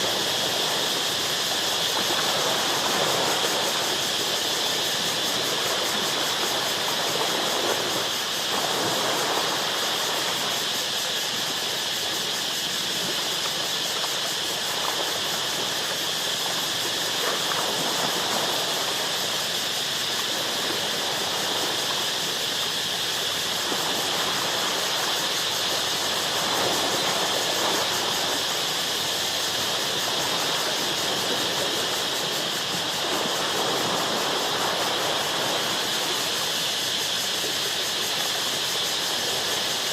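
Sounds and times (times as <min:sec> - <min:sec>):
ocean waves washing against rocks: 0:00.0 - 0:11.8, 0:12.7 - 0:39.9.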